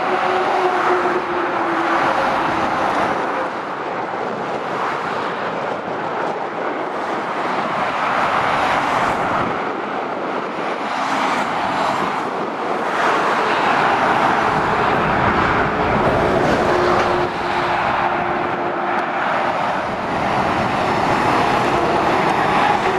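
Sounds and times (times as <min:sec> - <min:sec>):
road traffic passing: 0:00.0 - 0:22.9.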